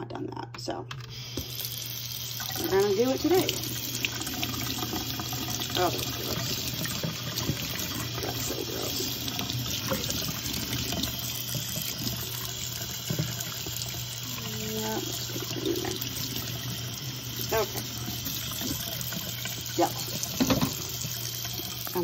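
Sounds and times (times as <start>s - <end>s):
faucet water splashing into sink: 1.0s - 22.0s.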